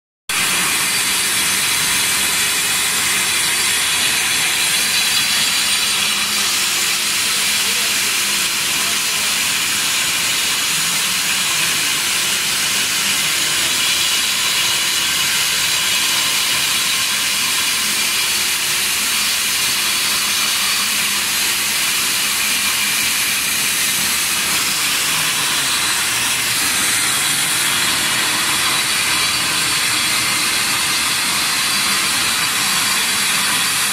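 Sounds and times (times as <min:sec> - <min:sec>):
floor grinder on concrete: 0:00.3 - 0:33.9.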